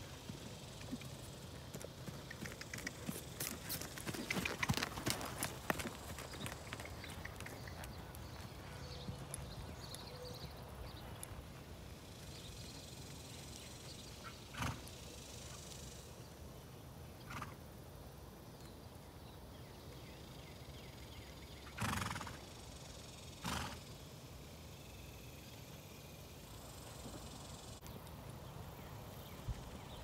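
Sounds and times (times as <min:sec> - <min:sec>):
faint outdoor hiss: 0:00.0 - 0:30.0.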